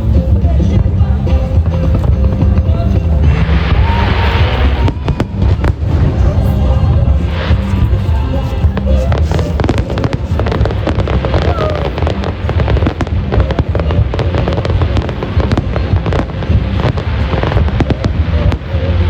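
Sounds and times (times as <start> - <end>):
fireworks crackling and popping: 0.0 - 19.0
music playing: 0.0 - 19.0
fireworks booming: 0.4 - 19.0.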